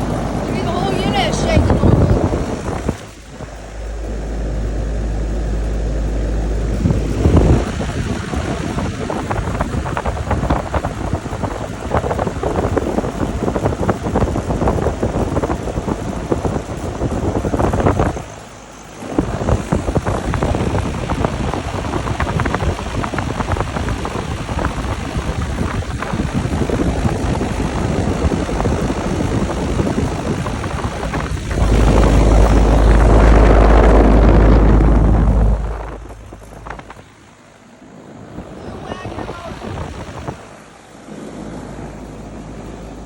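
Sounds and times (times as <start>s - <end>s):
air conditioner units running: 0.0s - 43.0s
wind buffeting microphone: 0.0s - 43.0s.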